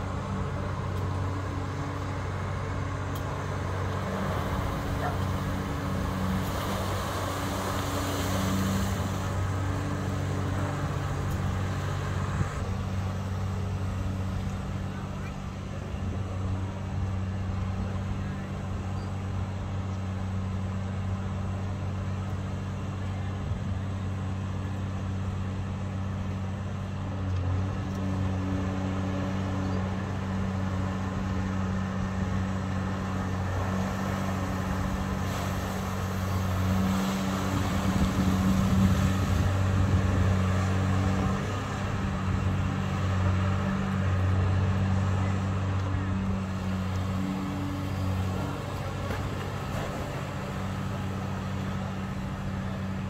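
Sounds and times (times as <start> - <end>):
excavator diesel engine hum: 0.0 - 53.0.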